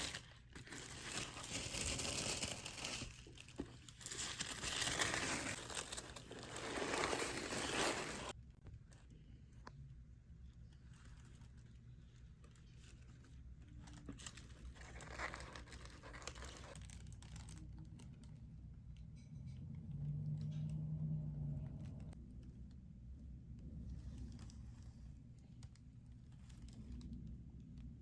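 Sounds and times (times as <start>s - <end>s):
rustling and crinkling handling: 0.0s - 18.4s, 22.1s - 28.0s.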